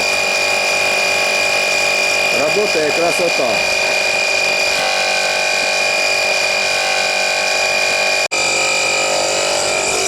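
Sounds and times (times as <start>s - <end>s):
air compressor running: 0.0s - 10.0s.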